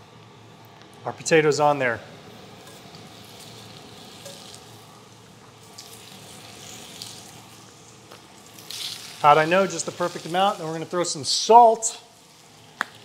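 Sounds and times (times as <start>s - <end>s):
potato slices sizzling in a pan: 2.5s - 13.0s.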